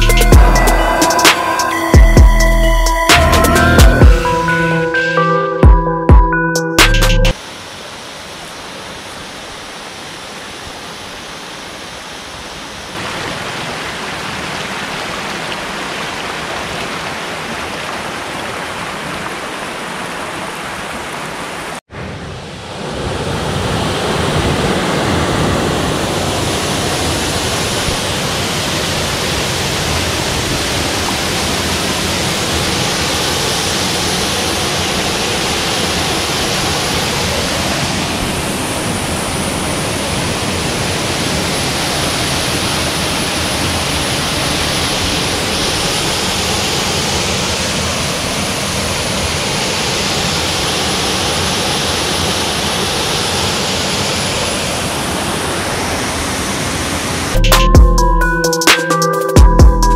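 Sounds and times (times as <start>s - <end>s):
waterfall rushing: 0.0s - 5.0s, 7.3s - 21.8s, 22.6s - 57.4s.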